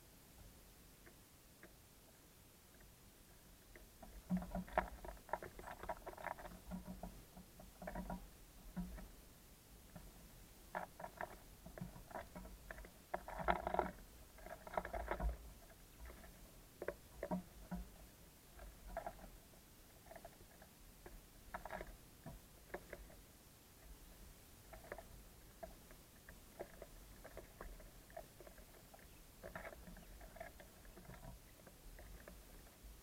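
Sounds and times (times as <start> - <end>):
birds pecking on wooden feeder: 0.4 - 33.0.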